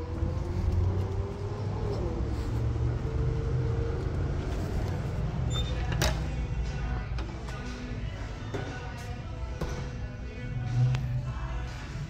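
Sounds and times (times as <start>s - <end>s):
faint engine hum: 0.0s - 12.0s
low rumble of traffic: 0.0s - 12.0s.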